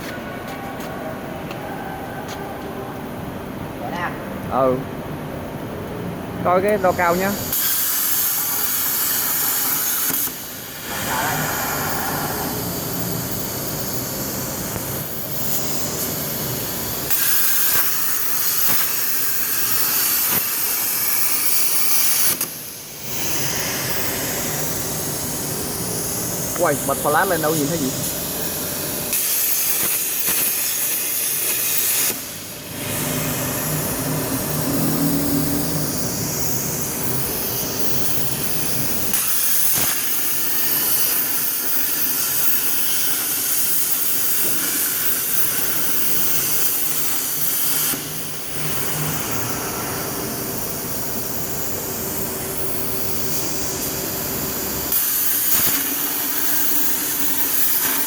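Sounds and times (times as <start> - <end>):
plasma torch hissing: 6.7 - 58.0.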